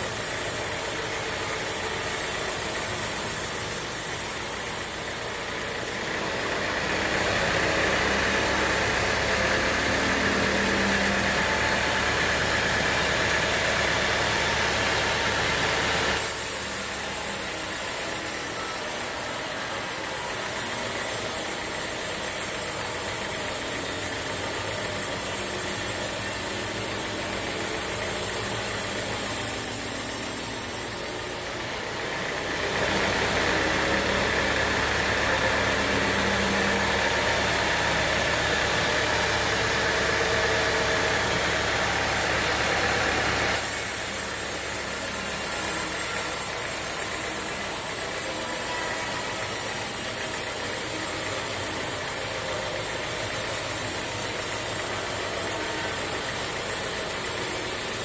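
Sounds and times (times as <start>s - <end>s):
band sawmill machinery running: 0.0s - 58.0s.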